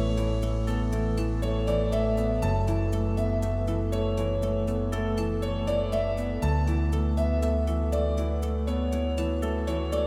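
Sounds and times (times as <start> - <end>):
soft new-age instrumental music: 0.0 - 10.0.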